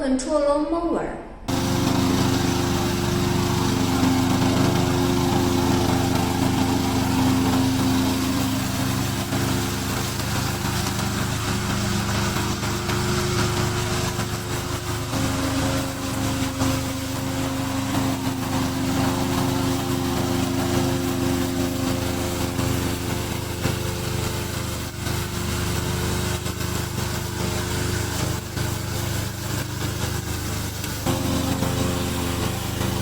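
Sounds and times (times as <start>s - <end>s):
mower engine humming: 1.5s - 33.0s.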